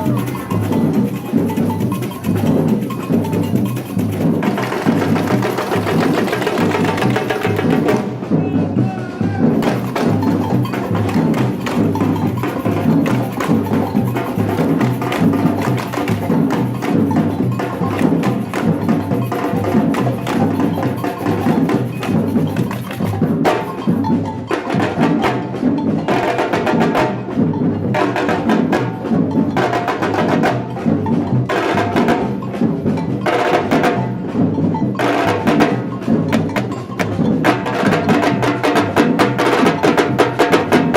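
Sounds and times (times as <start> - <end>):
samba percussion drum groove: 0.0 - 40.9.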